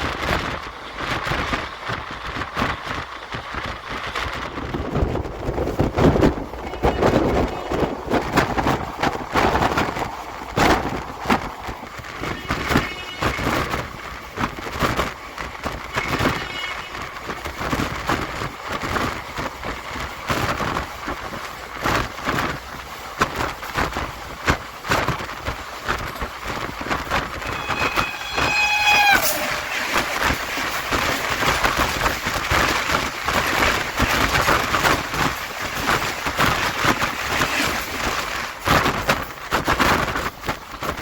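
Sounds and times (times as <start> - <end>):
train rumble inside coach: 0.0 - 41.0
train wheels clacking over rails: 0.0 - 41.0.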